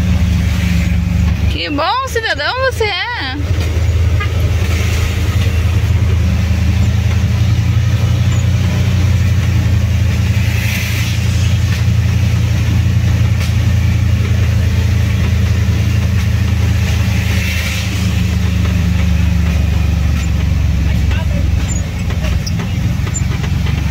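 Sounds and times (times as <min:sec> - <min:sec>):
road noise: 0:00.0 - 0:23.9
van engine running: 0:00.0 - 0:23.9.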